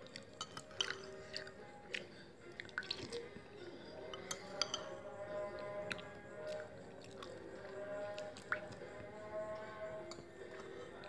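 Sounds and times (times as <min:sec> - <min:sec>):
faint music: 0:00.0 - 0:11.0
person eating with clicks and chews: 0:00.0 - 0:11.0.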